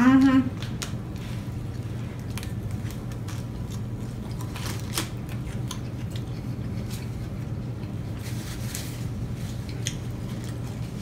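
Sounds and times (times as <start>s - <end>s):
steady low hum: 0.0s - 11.0s
people chewing: 0.6s - 11.0s.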